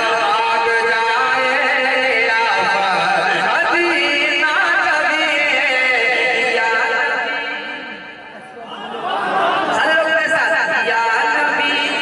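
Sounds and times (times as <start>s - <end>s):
man singing devotional song: 0.0s - 8.1s, 9.7s - 12.0s.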